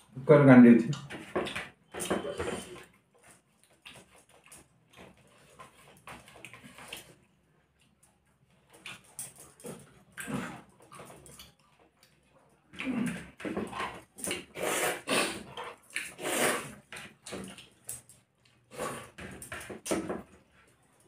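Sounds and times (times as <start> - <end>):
chewing: 0.9 - 21.0.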